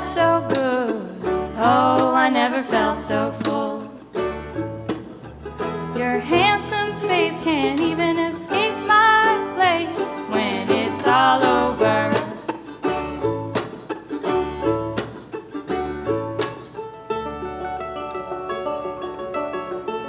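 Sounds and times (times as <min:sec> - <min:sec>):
plucked and strummed strings: 0:00.0 - 0:20.0.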